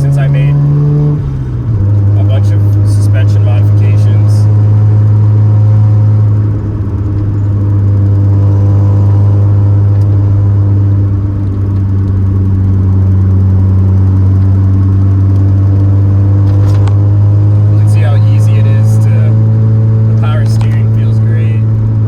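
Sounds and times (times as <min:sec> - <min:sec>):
rotary engine droning: 0:00.0 - 0:22.0.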